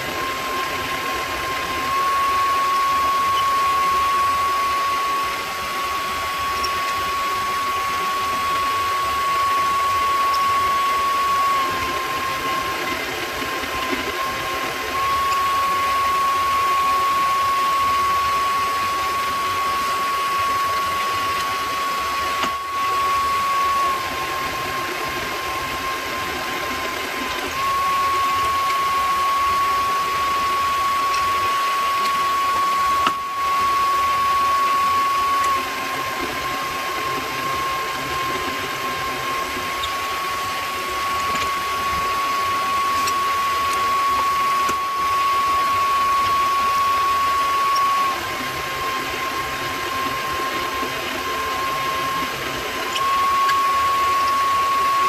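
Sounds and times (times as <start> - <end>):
drill boring into workpiece: 0.0 - 55.0
lathe motor whine: 0.0 - 55.0.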